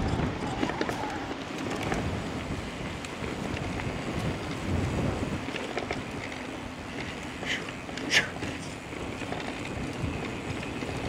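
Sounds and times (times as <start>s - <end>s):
bike ticks and rattles: 0.0s - 11.0s
tyres rumbling on dirt: 0.0s - 11.0s
wind buffeting microphone: 0.0s - 11.0s.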